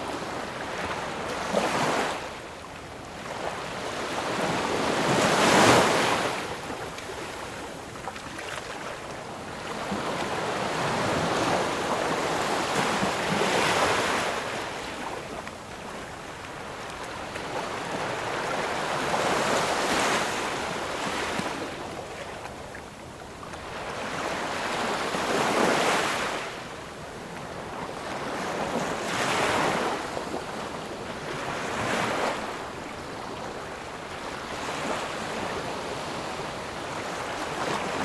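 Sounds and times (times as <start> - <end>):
ocean waves breaking on shore: 0.0 - 38.0.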